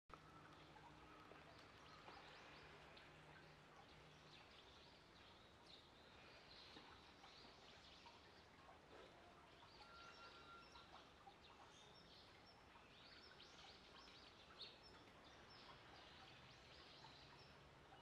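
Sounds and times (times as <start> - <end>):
faint bird chirps: 0.1 - 18.0.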